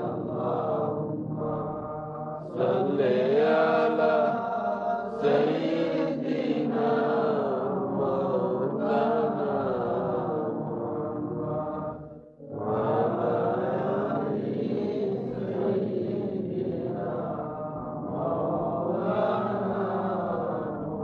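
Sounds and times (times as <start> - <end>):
man leading devotional chanting: 0.0 - 21.0.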